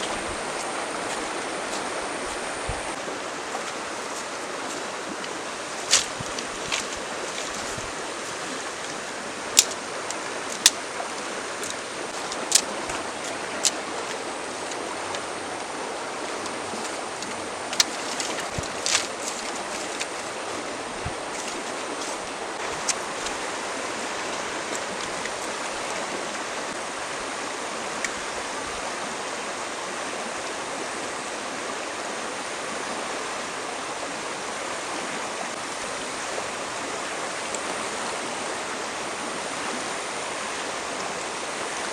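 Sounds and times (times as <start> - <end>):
stream water running: 0.0 - 41.9.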